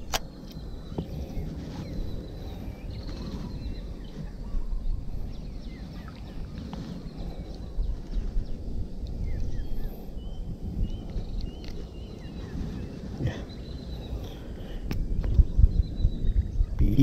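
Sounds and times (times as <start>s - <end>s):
birds chirping: 0.0s - 17.0s
wind rumbling on microphone: 0.0s - 17.0s.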